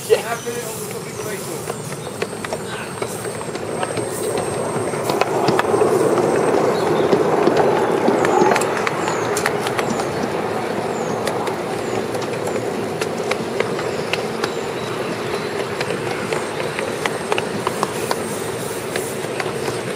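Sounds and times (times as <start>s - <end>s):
wheels rumbling on rails: 0.0s - 19.9s.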